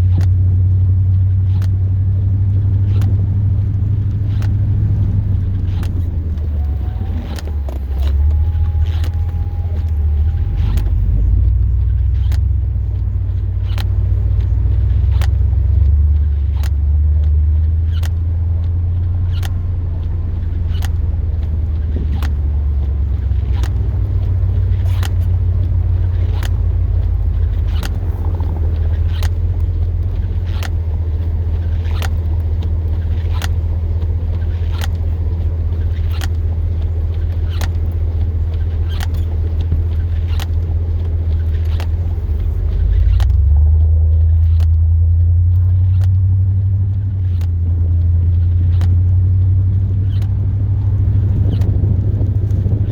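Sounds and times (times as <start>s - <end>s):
pickup truck engine rumbling: 0.0s - 52.9s.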